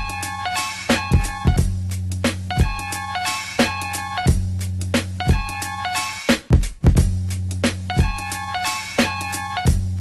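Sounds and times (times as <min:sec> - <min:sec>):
hip-hop instrumental beat: 0:00.0 - 0:10.0.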